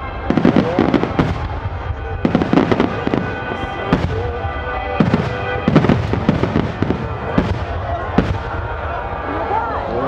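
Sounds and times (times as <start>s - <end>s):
fireworks bursts: 0.0s - 9.3s
music playing: 0.0s - 10.0s.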